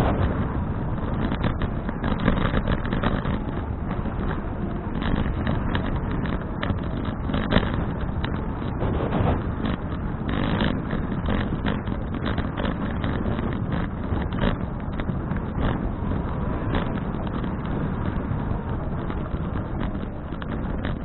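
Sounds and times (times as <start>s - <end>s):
bike rattles and knocks: 0.0s - 21.0s
wind rushing over microphone: 0.0s - 21.0s.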